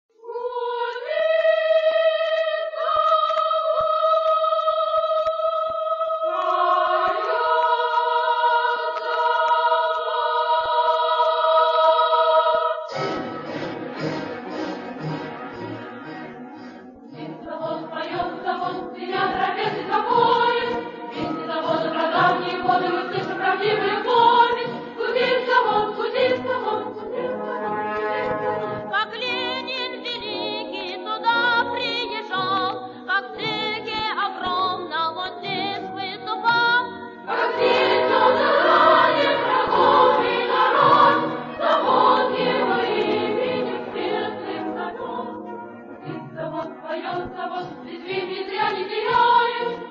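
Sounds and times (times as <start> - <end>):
choir singing: 0.2 - 32.5, 36.1 - 49.9.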